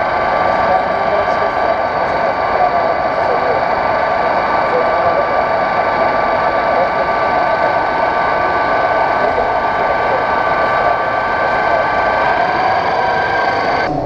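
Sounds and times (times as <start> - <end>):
busy hall crowd noise: 0.0 - 14.0.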